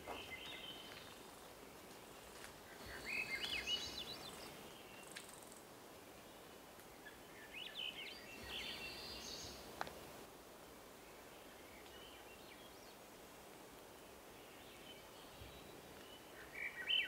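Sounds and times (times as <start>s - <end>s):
outdoor hiss: 0.0s - 17.0s.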